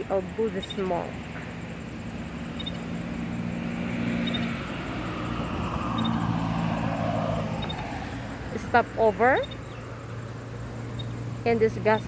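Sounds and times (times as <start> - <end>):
engine hum: 0.0 - 12.0
road noise: 0.0 - 12.0.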